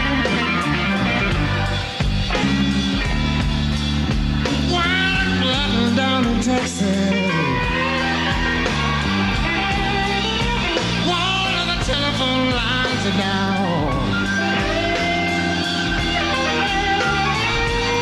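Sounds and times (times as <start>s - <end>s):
blues-rock band playing: 0.0s - 18.0s
electric guitar bent notes: 0.0s - 18.0s.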